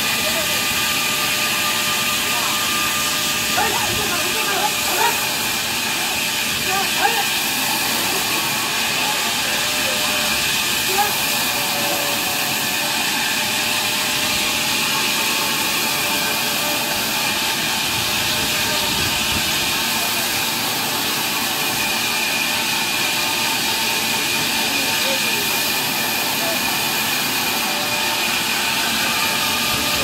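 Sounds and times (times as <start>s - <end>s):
band saw cutting log: 0.0s - 30.0s.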